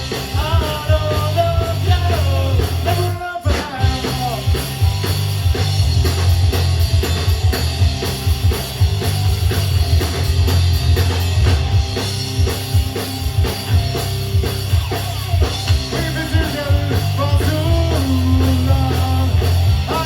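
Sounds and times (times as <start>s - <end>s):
bass guitar: 0.0s - 20.0s
drum kit steady beat: 0.0s - 20.0s
electric guitar: 0.0s - 20.0s.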